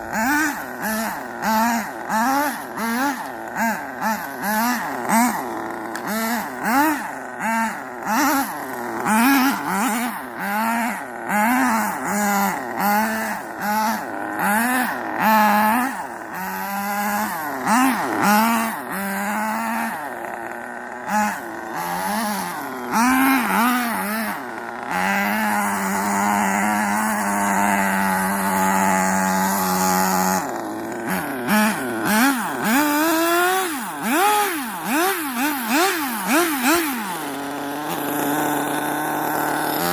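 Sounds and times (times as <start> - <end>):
rc truck motor whining: 0.0 - 39.9.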